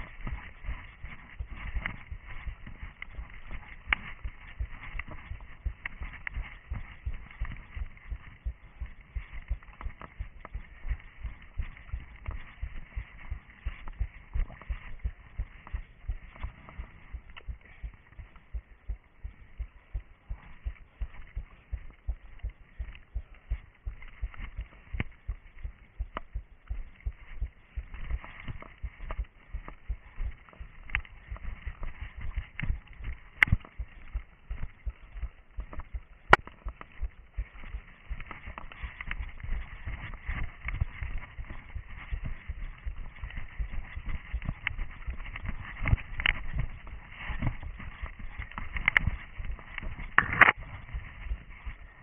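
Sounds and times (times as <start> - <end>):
undergrowth crackling and rustling: 0.0 - 19.6, 20.2 - 52.0
running footsteps on forest floor: 0.0 - 52.0.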